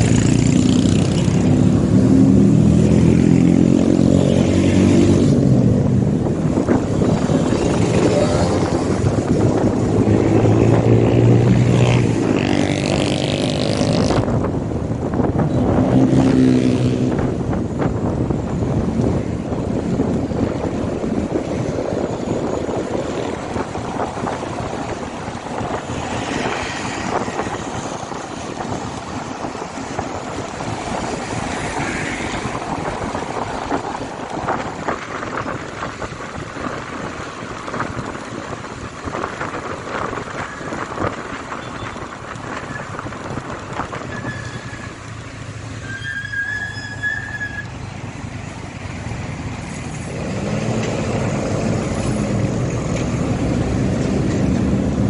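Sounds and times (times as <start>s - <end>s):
wind rush: 0.0s - 46.0s, 46.8s - 55.0s
motorcycle engine and tyre noise: 0.0s - 55.0s.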